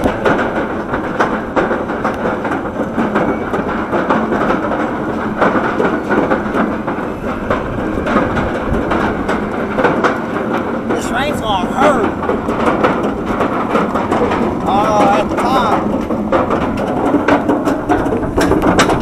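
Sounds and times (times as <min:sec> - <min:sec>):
roller coaster lift chain clattering: 0:00.0 - 0:19.0.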